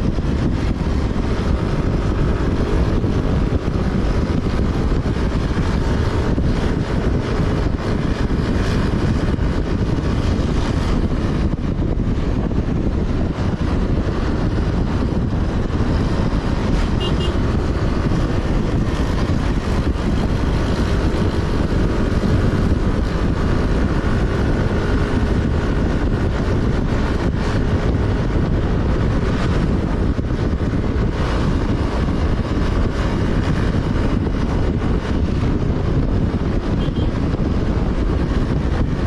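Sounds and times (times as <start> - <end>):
road noise: 0.0 - 39.0
vehicle engine: 0.0 - 39.0.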